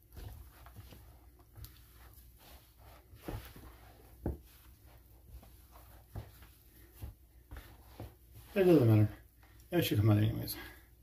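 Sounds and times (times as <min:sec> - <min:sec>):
hands kneading bread dough: 0:00.0 - 0:11.0.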